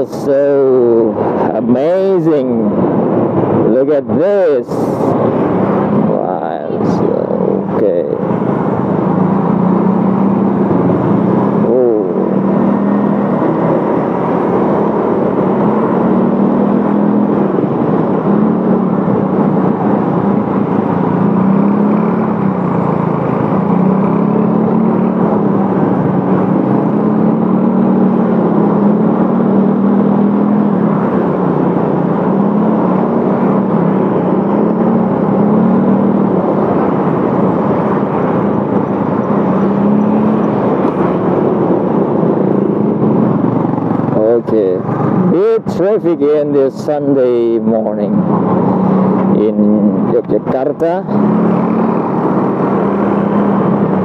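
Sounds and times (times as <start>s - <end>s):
road and wind noise: 0.0s - 54.0s
motorcycle engine revving: 4.8s - 54.0s.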